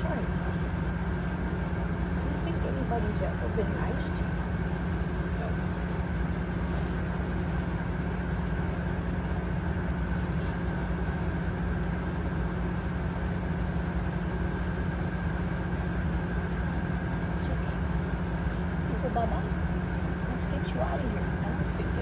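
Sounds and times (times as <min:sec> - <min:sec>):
faint steady whine: 0:00.0 - 0:22.0
low mechanical hum: 0:00.0 - 0:22.0.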